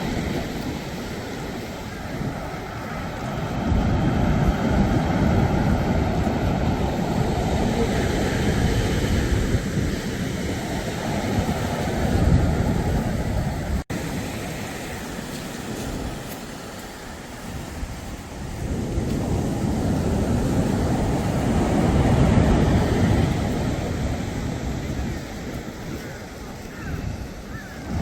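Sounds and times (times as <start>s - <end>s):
sea surf washing ashore: 0.0s - 28.0s
wind rumbling on microphone: 0.0s - 28.0s.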